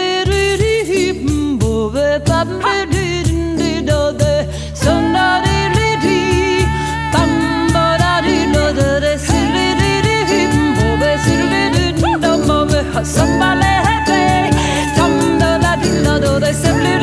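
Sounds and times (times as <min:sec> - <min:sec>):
steady drumbeat: 0:00.3 - 0:17.0
wavering vocal-style melody: 0:00.8 - 0:17.0
sustained bass notes: 0:01.1 - 0:17.0.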